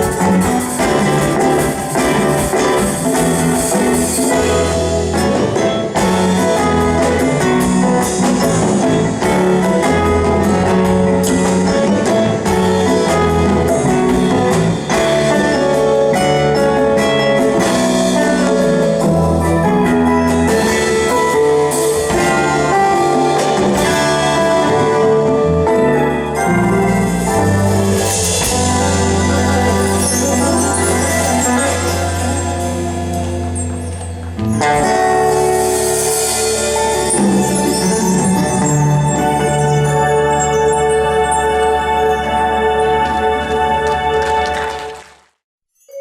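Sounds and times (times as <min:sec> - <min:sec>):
band playing live: 0:00.0 - 0:45.4.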